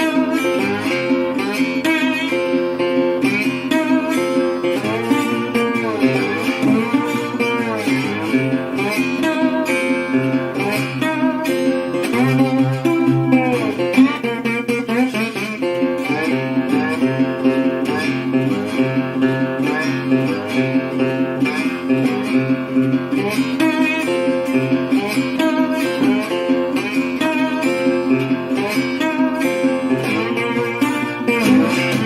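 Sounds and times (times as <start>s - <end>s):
plucked string instrument: 0.0s - 32.0s.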